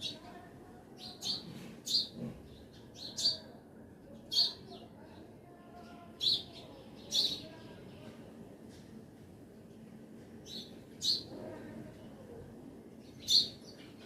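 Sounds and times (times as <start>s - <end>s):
small birds chirping: 0.0s - 8.4s, 10.4s - 14.0s.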